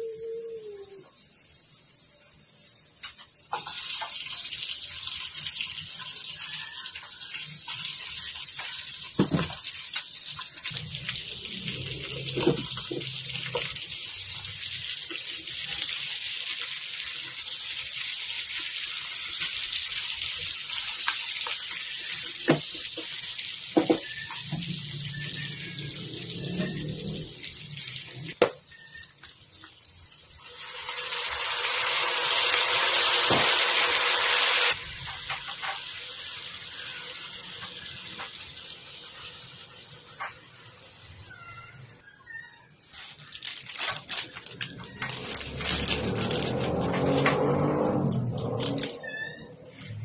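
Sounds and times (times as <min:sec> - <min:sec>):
pork sizzling in hot oil: 0:00.0 - 0:42.1, 0:42.8 - 0:50.0.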